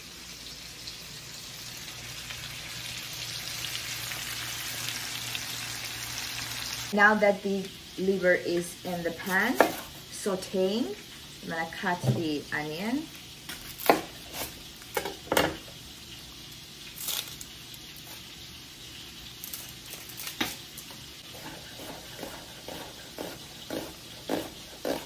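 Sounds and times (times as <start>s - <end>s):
chicken livers sizzling in a pan: 0.0s - 25.0s.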